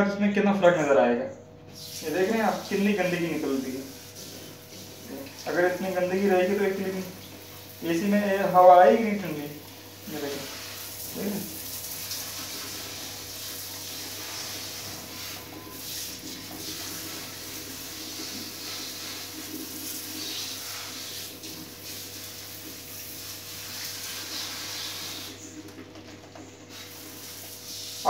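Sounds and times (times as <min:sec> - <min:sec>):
water hissing from shower sprayer: 0:01.7 - 0:25.5, 0:26.6 - 0:28.0.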